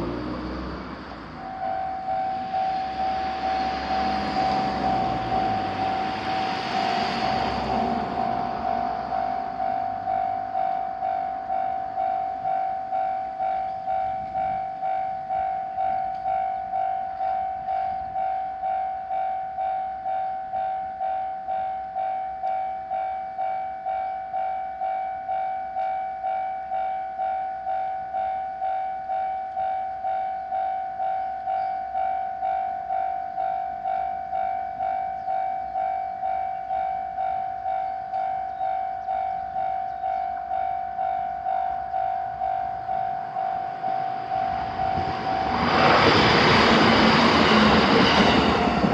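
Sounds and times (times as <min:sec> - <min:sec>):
level-crossing warning bell: 0:00.0 - 0:48.9.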